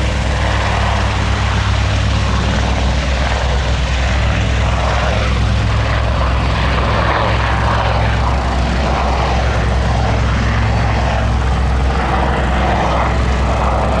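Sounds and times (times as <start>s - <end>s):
helicopter drone: 0.0s - 14.0s.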